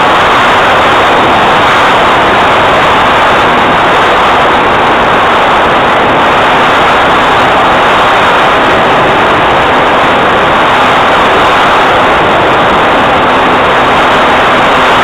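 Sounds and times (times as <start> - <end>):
airplane engine and propeller drone: 0.0 - 15.0
rushing air: 0.0 - 15.0.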